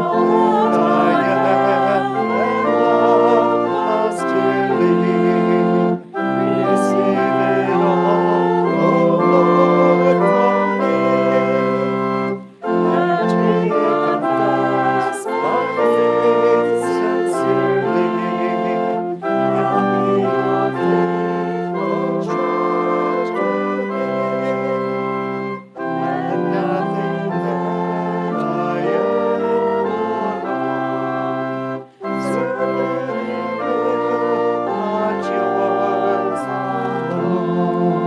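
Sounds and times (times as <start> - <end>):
church organ playing a hymn: 0.0 - 38.0
voices singing along: 0.0 - 38.0.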